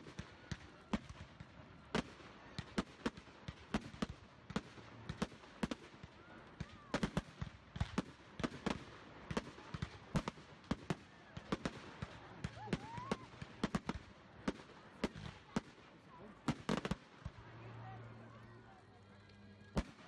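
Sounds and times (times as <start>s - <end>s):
fireworks bangs and cracks: 0.0s - 17.5s, 19.7s - 20.0s.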